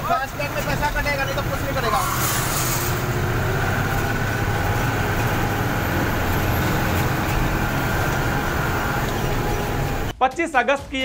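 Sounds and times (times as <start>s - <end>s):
truck engine and road drone: 0.0s - 10.2s.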